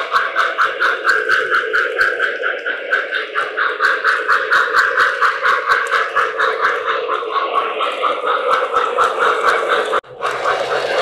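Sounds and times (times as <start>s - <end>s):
model train clattering on track: 0.0s - 11.0s.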